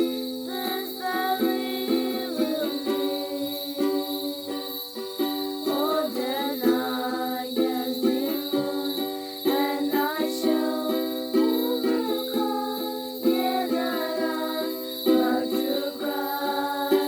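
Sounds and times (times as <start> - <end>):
plucked string instrument music: 0.0 - 17.0.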